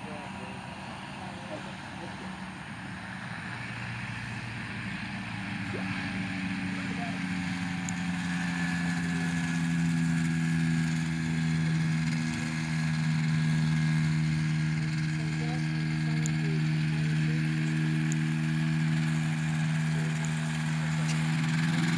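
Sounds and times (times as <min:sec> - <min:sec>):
propeller plane engine running: 0:00.0 - 0:21.9.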